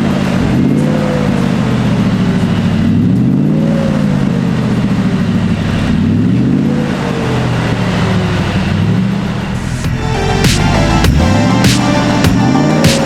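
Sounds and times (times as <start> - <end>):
pickup truck exhaust revving: 0.0 - 13.0.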